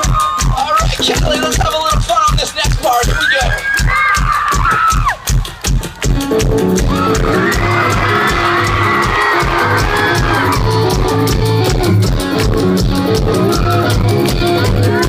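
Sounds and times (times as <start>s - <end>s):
fast kick drum: 0.0s - 15.0s
live rock band: 0.0s - 15.0s.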